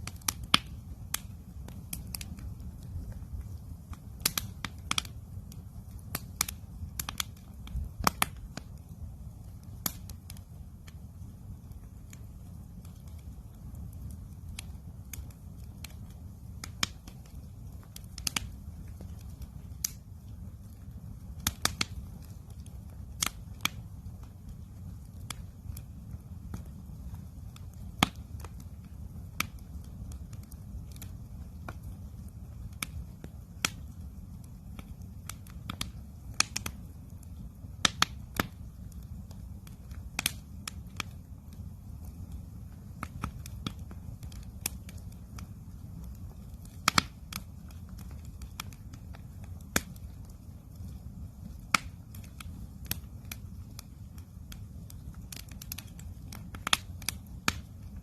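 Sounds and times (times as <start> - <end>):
campfire crackling and popping: 0.0 - 58.0
steady low rumble: 0.0 - 58.0.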